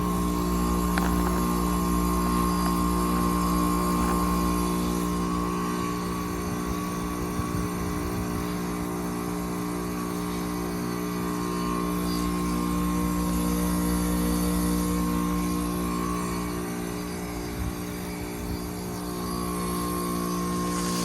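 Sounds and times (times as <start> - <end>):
heat pump compressor hum: 0.0 - 21.0.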